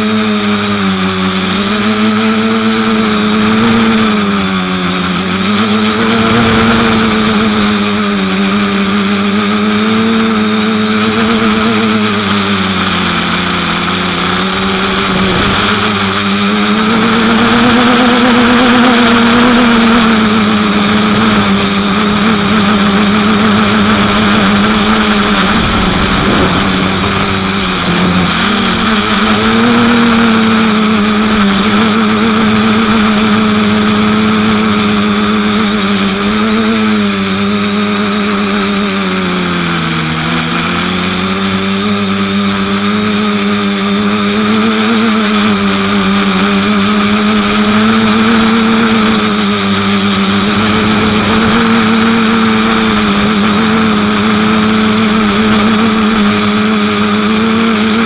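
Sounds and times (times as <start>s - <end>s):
motor droning: 0.0s - 58.0s.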